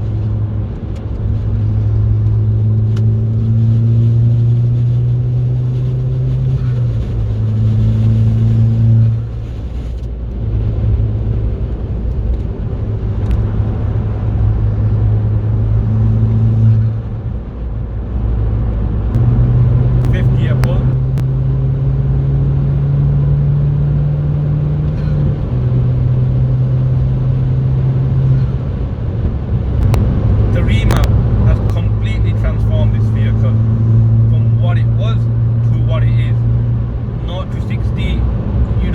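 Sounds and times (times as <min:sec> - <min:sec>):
car engine pulling hard: 0:00.0 - 0:38.9.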